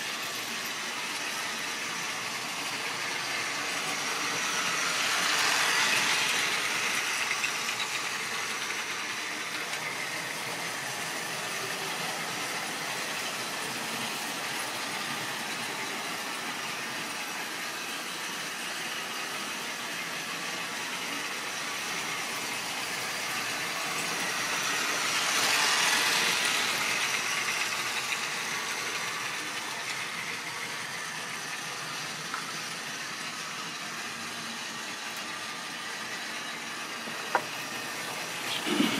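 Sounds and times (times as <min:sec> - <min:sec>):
model train rattling on track: 0:00.0 - 0:38.9.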